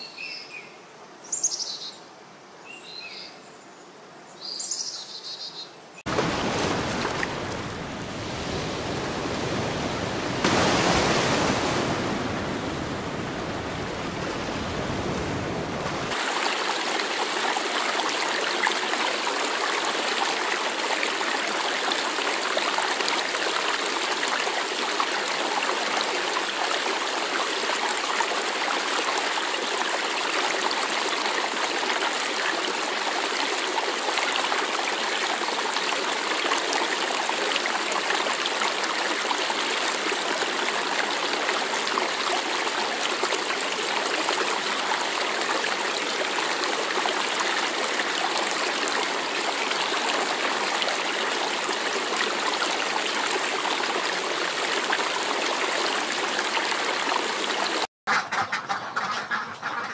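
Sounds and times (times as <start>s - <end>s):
flowing water rushing: 6.1s - 57.9s.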